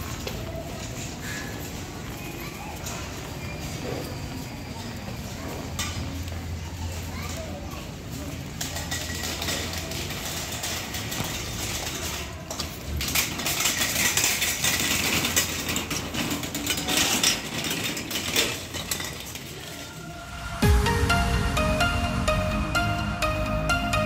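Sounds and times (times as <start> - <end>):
shopping trolley rattling: 0.0 - 20.2.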